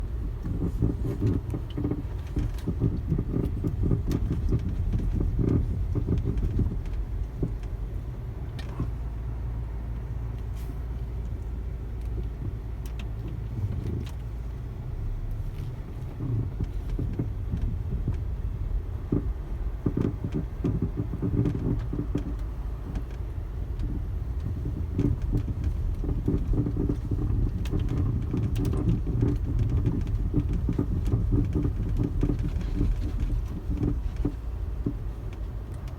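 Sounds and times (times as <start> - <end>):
road rumble: 0.0 - 35.9
suspension creaks and knocks: 0.3 - 9.1, 11.9 - 35.9.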